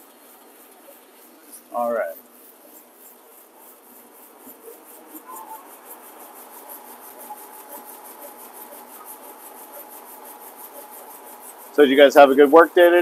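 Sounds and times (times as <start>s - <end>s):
machine fast even ticking: 0.0s - 13.0s
thin steady machine whine: 0.0s - 13.0s.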